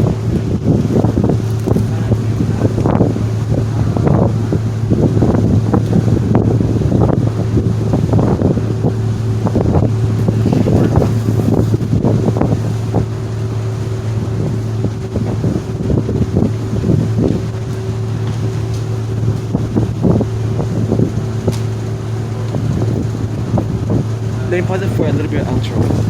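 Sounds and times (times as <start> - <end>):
ferry engines droning: 0.0 - 26.0
wind buffeting microphone: 0.0 - 26.0.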